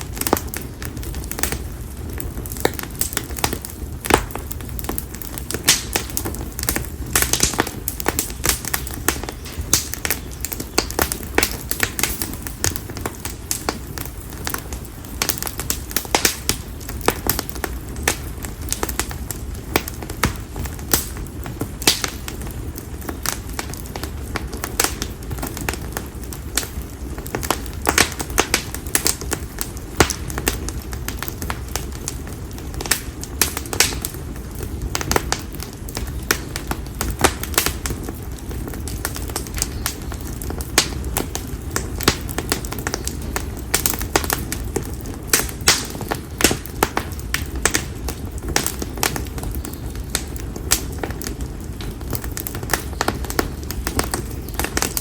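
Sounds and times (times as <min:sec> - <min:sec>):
firewood crackling and popping: 0:00.0 - 0:55.0
low rumble of flame: 0:00.0 - 0:55.0.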